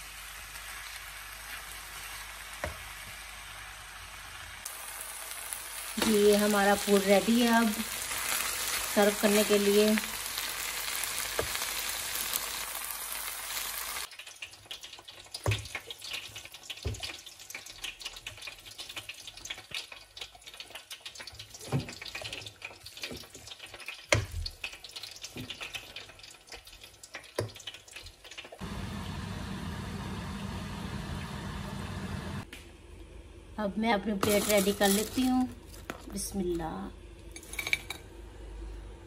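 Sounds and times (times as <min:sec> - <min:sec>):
noodles sizzling in a wok: 0:00.0 - 0:32.5, 0:34.2 - 0:37.8.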